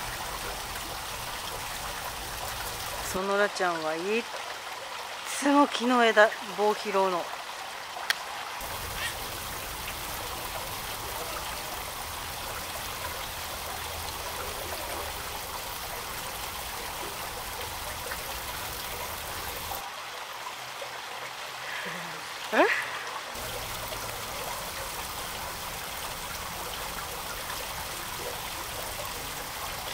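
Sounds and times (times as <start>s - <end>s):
fountain water trickling: 0.0s - 29.9s.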